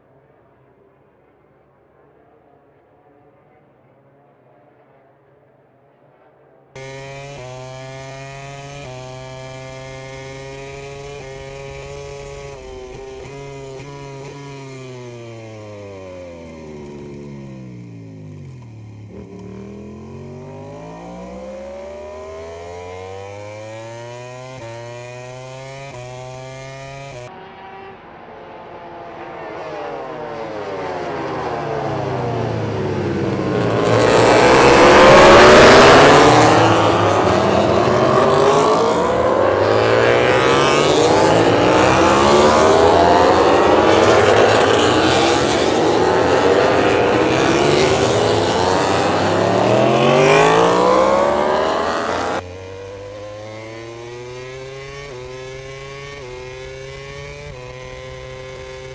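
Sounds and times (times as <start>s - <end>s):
race motorcycle engine revving: 6.8s - 27.9s, 30.0s - 58.9s
motorcycles passing by: 6.8s - 58.9s.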